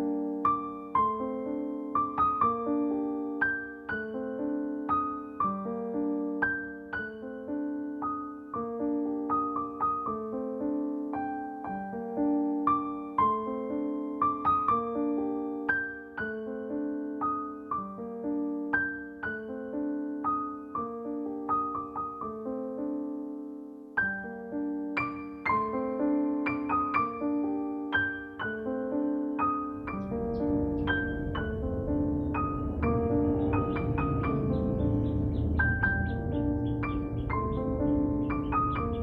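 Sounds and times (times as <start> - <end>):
electric piano melody: 0.0 - 39.0.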